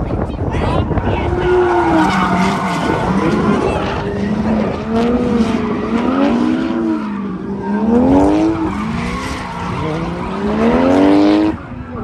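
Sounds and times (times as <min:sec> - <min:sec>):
car engines revving: 0:00.0 - 0:12.0
tyres skidding and squealing: 0:00.8 - 0:12.0.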